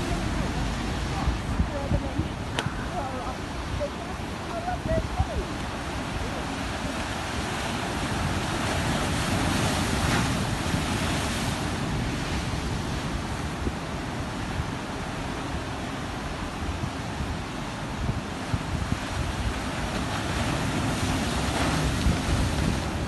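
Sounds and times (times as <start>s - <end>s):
ocean waves washing ashore: 0.0s - 23.0s
wind rumbling on microphone: 0.0s - 23.0s.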